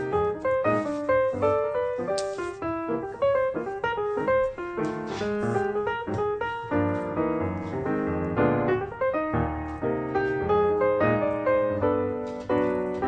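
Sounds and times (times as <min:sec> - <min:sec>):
lively piano music: 0:00.0 - 0:13.0.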